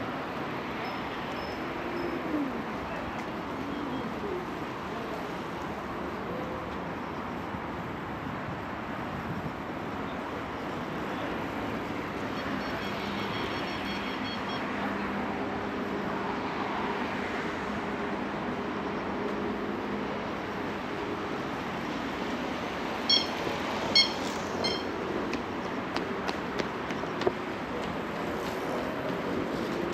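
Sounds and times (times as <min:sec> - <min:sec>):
city vehicle noise: 0:00.0 - 0:29.9.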